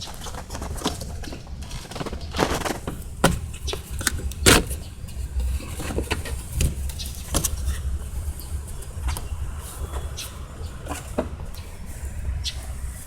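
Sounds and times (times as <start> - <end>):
steady low rumble: 1.0 - 13.0.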